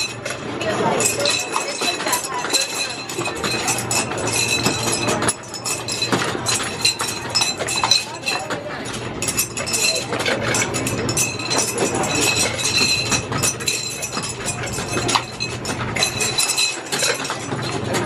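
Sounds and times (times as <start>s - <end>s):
rings clinking on glass bottles: 0.0s - 18.0s.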